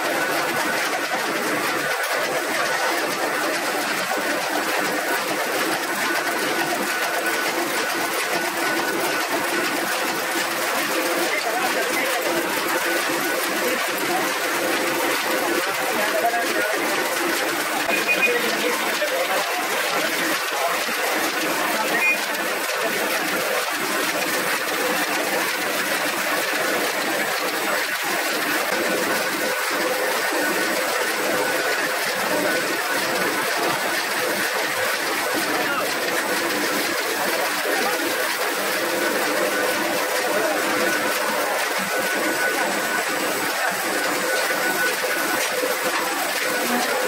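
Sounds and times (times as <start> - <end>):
printing press clattering: 0.0 - 47.0.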